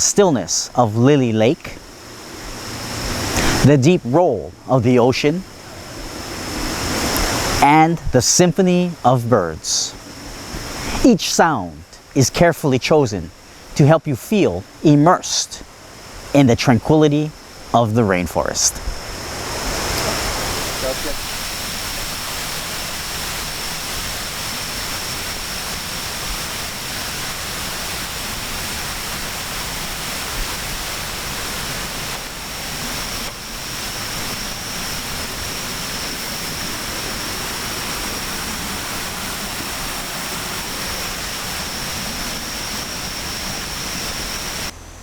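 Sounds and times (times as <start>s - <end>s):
running water rushing: 0.0s - 44.7s.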